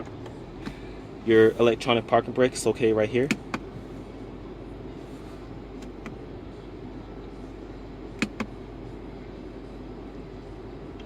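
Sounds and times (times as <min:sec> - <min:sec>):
car cabin engine hum: 0:00.0 - 0:11.0.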